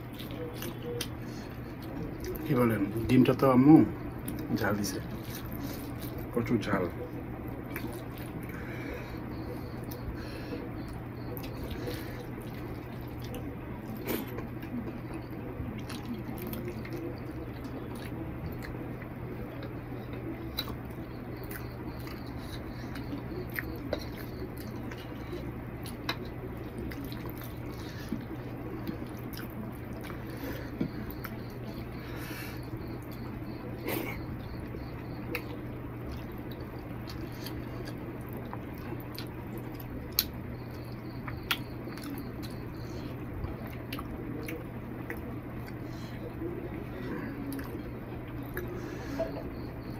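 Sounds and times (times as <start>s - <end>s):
chewing food: 0.0s - 49.9s
wet squishing of fingers in food: 0.0s - 49.9s.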